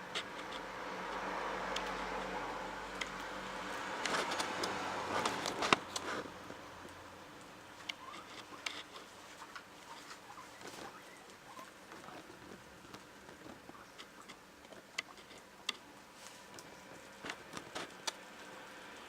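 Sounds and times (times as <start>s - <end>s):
guinea pigs nibbling: 0.0s - 19.0s.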